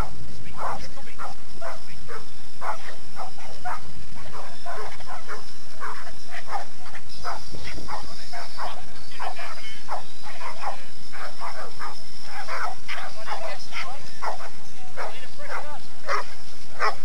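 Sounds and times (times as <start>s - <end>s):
dogs barking rapidly: 0.0s - 17.0s.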